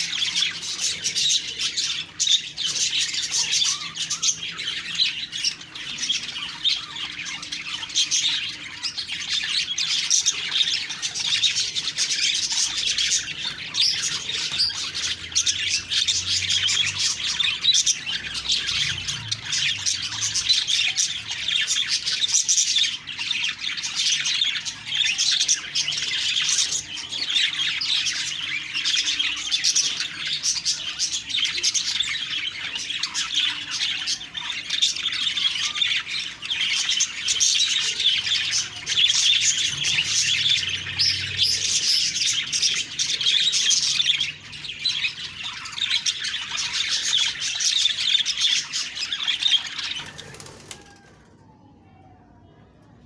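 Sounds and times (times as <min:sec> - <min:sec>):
budgies chattering: 0:00.0 - 0:51.2.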